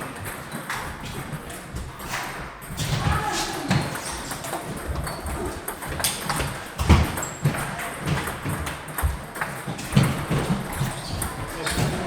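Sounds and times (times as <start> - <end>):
ping pong ball clicking off bats: 0.0 - 2.8, 3.6 - 12.0.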